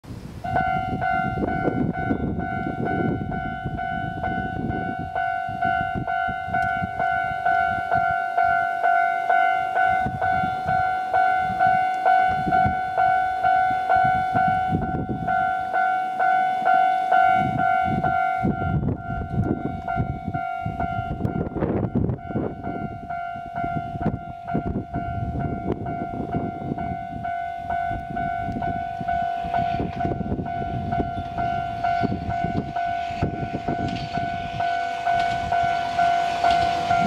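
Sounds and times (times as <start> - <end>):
level crossing warning bell: 0.4 - 37.0.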